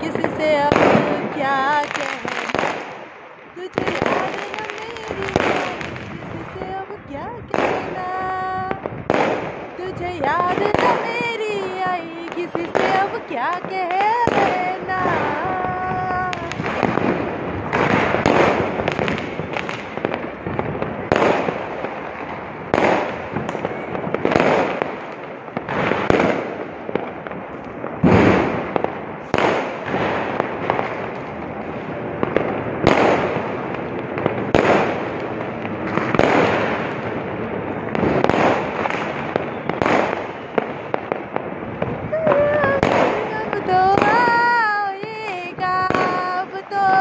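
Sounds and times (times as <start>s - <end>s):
fireworks banging: 0.0s - 47.0s
fireworks crackling: 0.0s - 47.0s.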